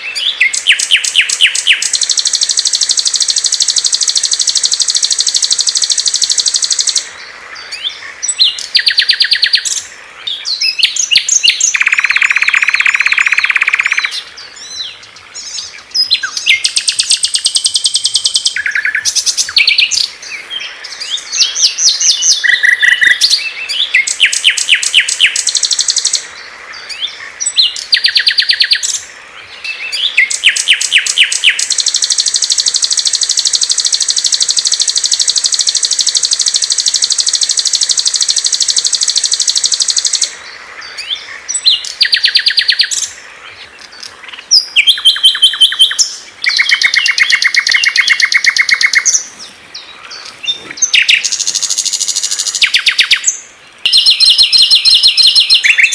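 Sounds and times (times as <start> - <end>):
songbirds trilling and chattering: 0.0 - 55.9.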